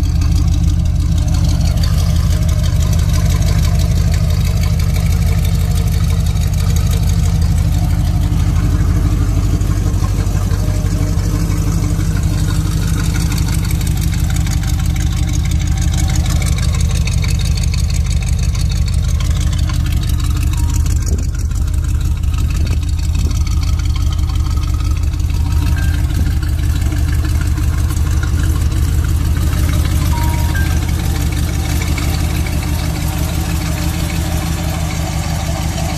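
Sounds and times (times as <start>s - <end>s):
truck engine idling: 0.0s - 35.9s.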